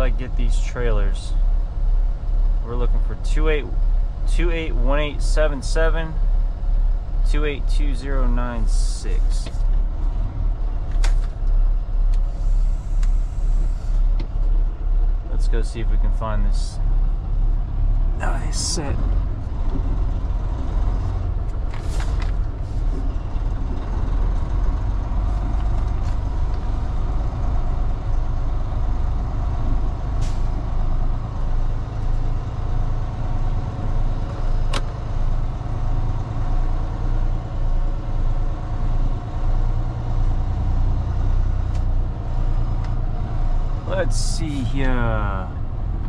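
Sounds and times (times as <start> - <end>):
truck diesel engine rumbling: 0.0 - 46.0.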